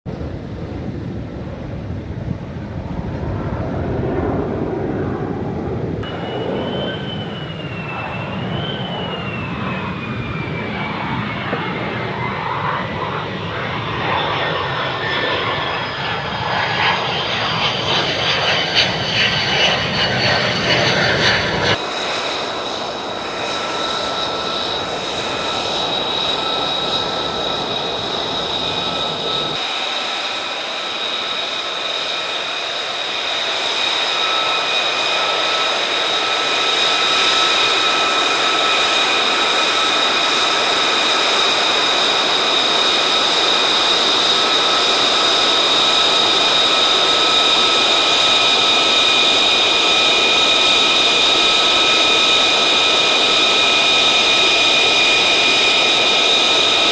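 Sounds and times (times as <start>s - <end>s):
jet engine rushing noise: 0.1s - 56.9s
jet engine whine: 0.1s - 56.9s.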